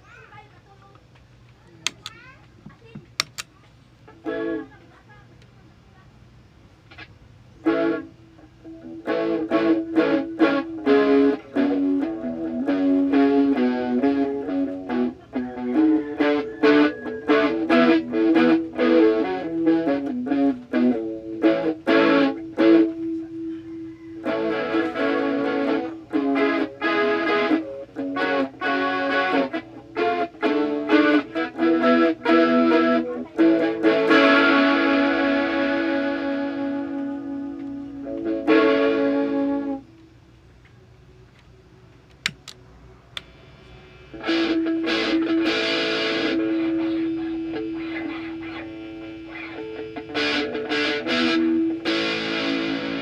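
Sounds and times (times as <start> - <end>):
distorted electric guitar: 4.1 - 4.8, 6.9 - 40.2, 43.2 - 53.0.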